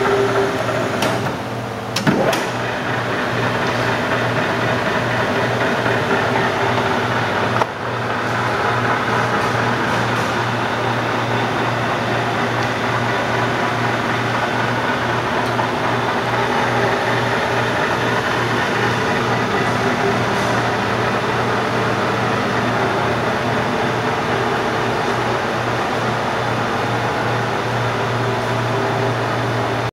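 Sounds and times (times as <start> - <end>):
lathe motor humming: 0.0 - 29.9.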